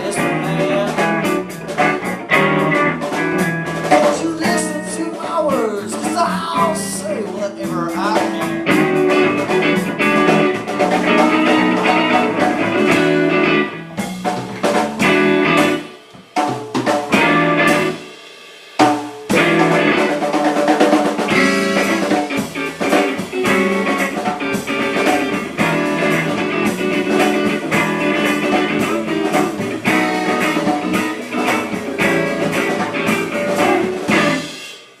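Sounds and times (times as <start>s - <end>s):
blues-rock guitar: 0.0s - 35.0s
drum kit: 0.0s - 35.0s.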